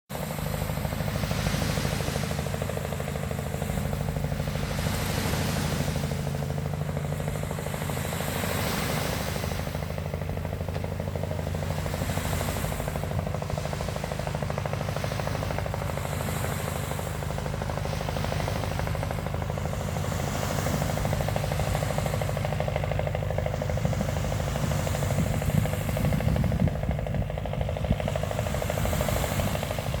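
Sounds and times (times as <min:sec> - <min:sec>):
boat engine thumping: 0:00.1 - 0:30.0
waves hissing: 0:00.2 - 0:30.0.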